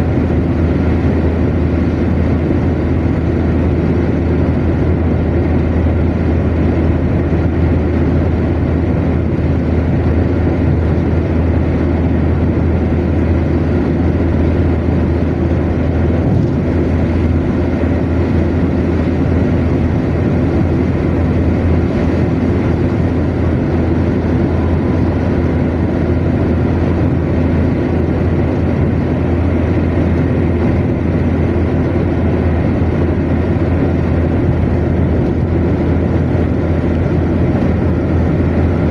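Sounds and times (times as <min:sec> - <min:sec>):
car engine running: 0:00.0 - 0:38.9
tyres rumbling on road: 0:00.0 - 0:38.9.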